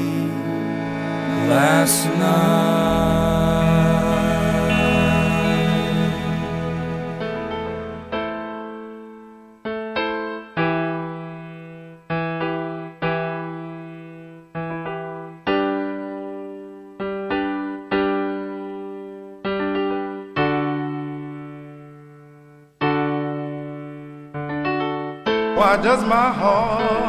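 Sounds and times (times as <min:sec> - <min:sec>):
solo piano slow chords: 0:00.0 - 0:27.0.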